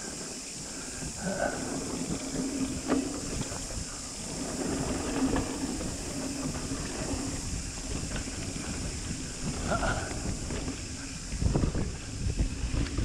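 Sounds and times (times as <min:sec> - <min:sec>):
bike rattling: 0:00.0 - 0:13.0
bike tyres rolling on gravel: 0:00.0 - 0:13.0
wind hiss on microphone: 0:00.0 - 0:13.0.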